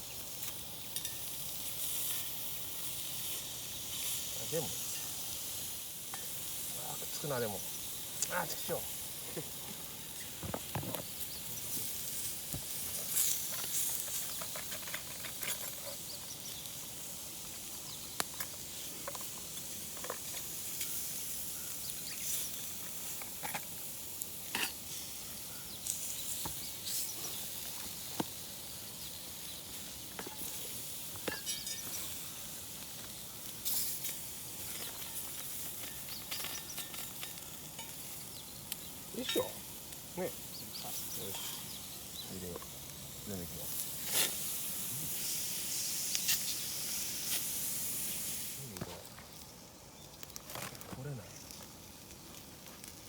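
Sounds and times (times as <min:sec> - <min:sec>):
fat sizzling on a griddle: 0:00.0 - 0:53.0.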